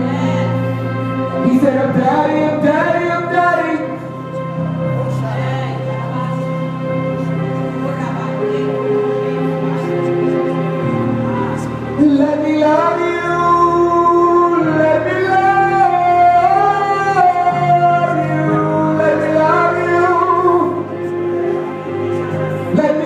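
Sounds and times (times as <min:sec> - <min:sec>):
keyboard pad: 0:00.0 - 0:23.0
person singing: 0:00.0 - 0:23.0.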